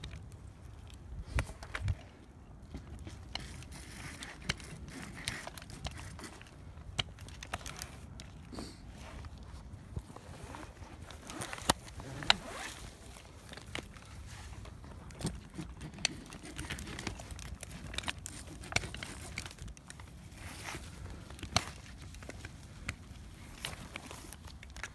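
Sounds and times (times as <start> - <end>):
branches rustling: 0.0 - 24.9.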